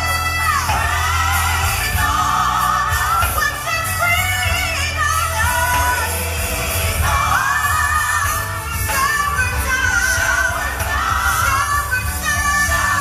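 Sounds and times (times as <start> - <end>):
person singing gospel: 0.0 - 13.0
steady bass: 0.0 - 13.0.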